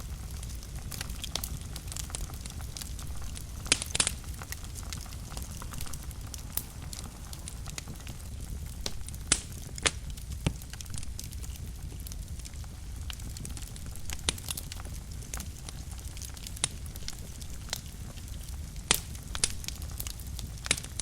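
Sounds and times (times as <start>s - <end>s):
fire flames rumbling: 0.0s - 21.0s
wood fire crackling and popping: 0.0s - 21.0s.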